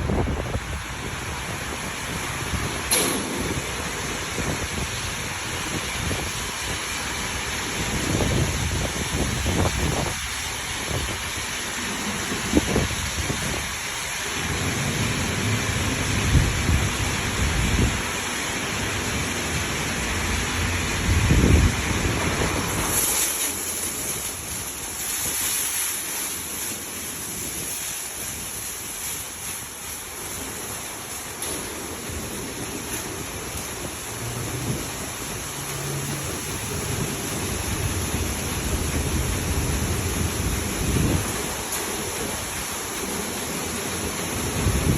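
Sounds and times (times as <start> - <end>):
bright hiss: 0.0 - 15.8, 22.1 - 44.9
water pelting car body: 0.0 - 44.9.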